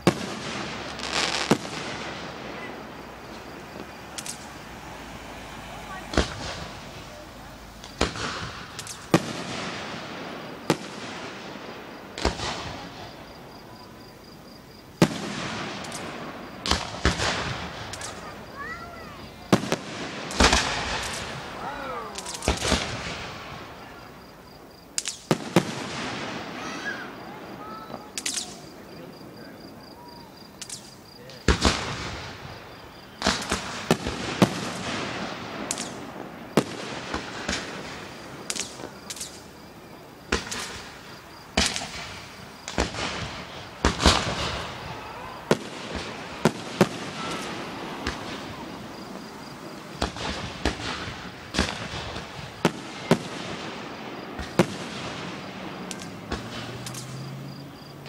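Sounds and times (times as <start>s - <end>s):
firework shells bursting: 0.0s - 57.7s.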